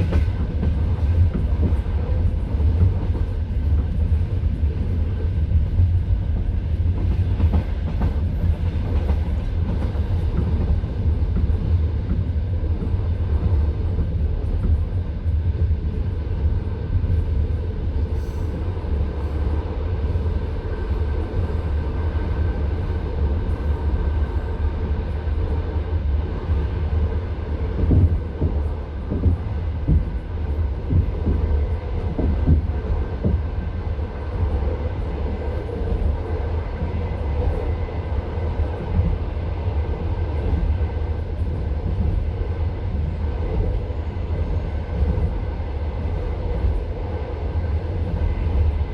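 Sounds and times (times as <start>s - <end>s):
train wheels rumbling on track: 0.0s - 48.9s.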